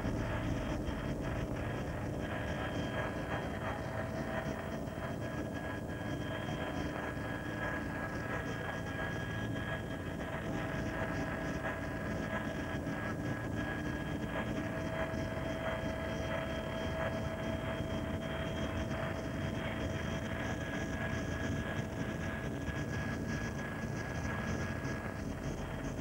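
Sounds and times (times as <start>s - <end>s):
helicopter engine and rotor drone: 0.0s - 26.0s.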